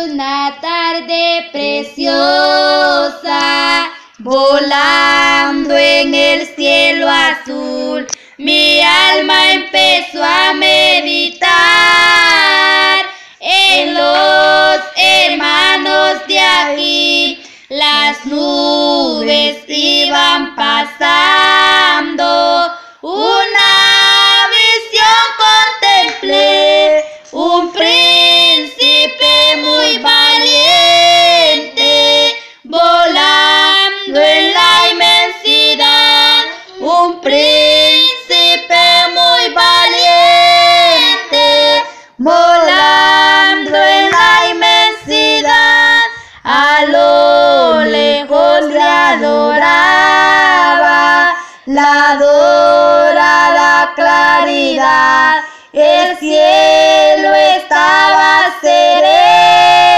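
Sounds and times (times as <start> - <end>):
person singing worship song: 0.0 - 59.9.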